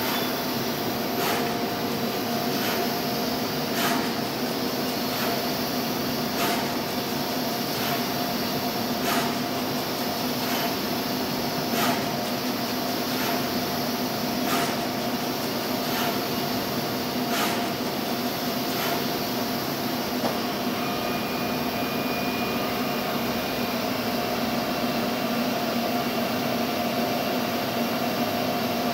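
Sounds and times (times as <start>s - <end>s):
machine mechanical hum: 0.0s - 28.9s.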